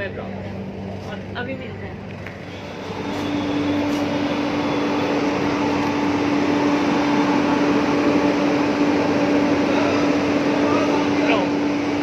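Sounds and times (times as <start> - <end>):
train coach mechanical hum: 0.0 - 12.0.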